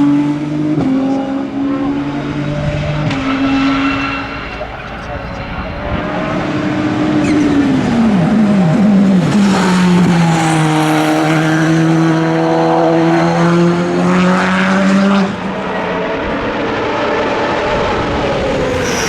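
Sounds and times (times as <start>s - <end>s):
racing car engine downshifting: 0.0s - 19.0s.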